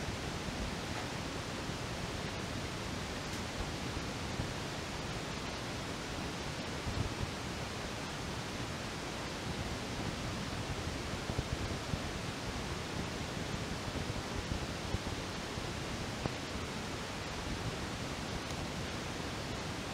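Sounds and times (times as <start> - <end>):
steady hiss: 0.0 - 19.9.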